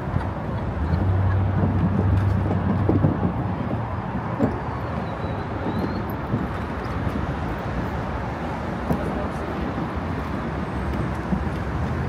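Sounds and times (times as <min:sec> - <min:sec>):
traffic and street noise: 0:00.0 - 0:12.0.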